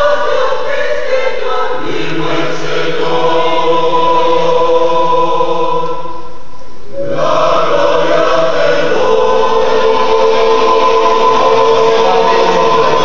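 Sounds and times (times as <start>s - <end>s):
mixed choir singing a hymn: 0.0s - 13.0s.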